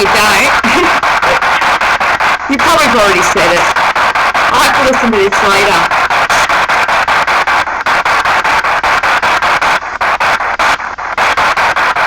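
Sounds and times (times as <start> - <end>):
pulsing radio static: 0.0 - 12.0.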